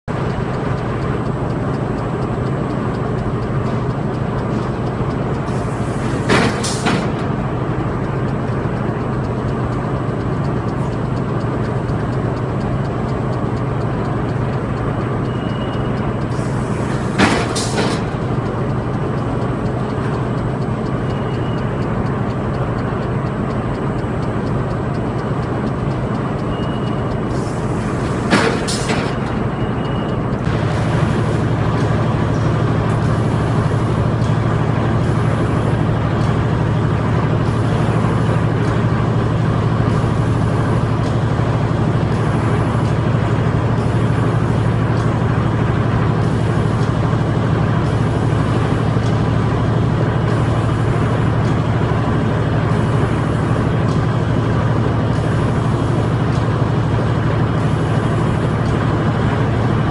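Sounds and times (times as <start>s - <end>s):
machinery droning: 0.0s - 59.9s.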